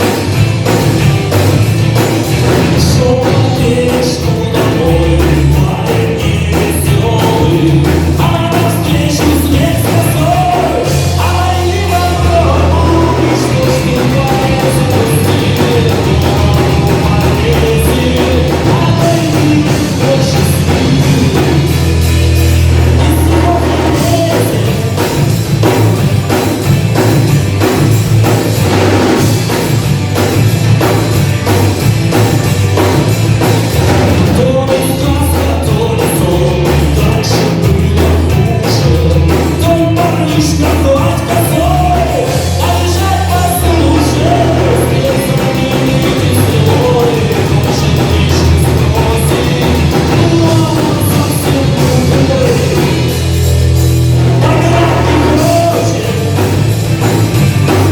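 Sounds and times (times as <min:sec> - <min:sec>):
rock band playing live: 0:00.0 - 0:57.9.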